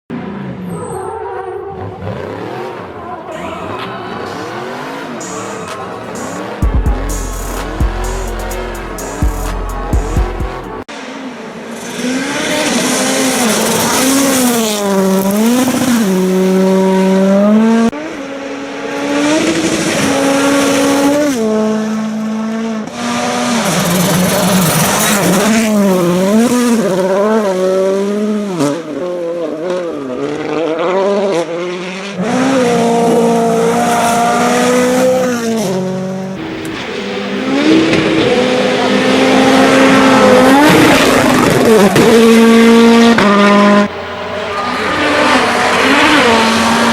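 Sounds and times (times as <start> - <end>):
racing engines revving: 0.1 - 46.9.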